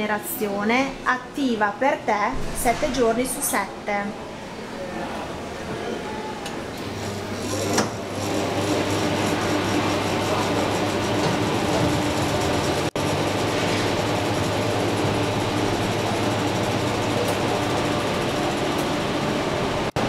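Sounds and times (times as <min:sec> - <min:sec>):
cooling fans whirring with low hum: 0:00.0 - 0:20.0.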